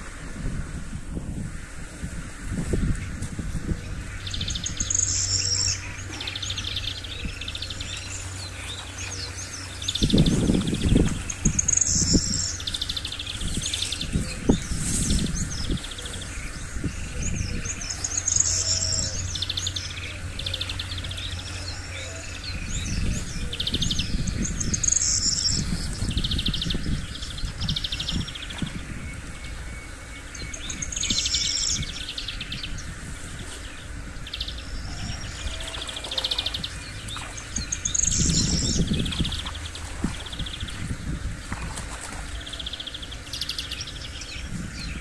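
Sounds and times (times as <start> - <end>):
small birds chirping and trilling: 2.5 - 45.0.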